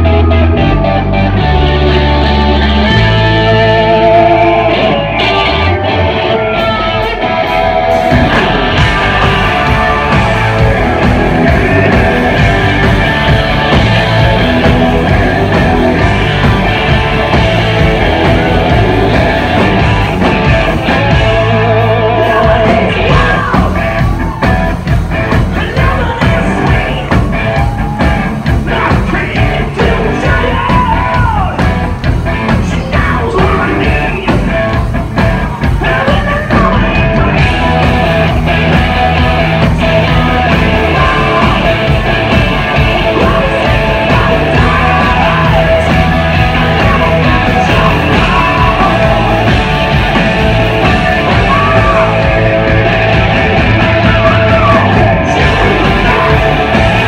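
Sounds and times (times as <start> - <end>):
bass: 0.0 - 57.0
distorted electric guitars: 0.0 - 57.0
drums: 0.0 - 57.0
shouted lead vocal: 2.5 - 57.0.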